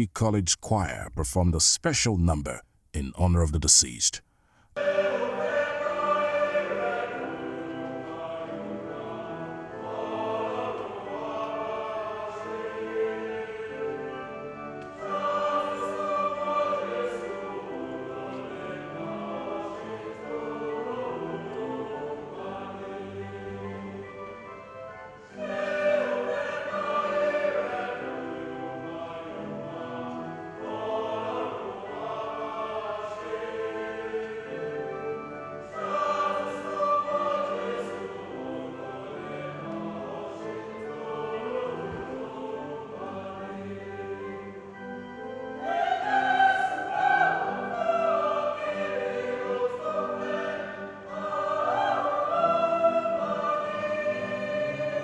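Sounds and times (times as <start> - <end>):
choir singing: 4.8 - 55.0.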